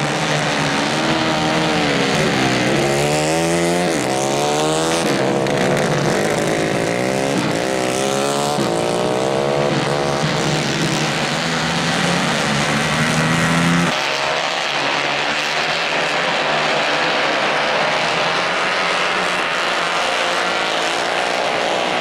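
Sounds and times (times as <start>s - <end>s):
distant karts droning: 0.0s - 22.0s
kart engine at high revs: 0.0s - 22.0s.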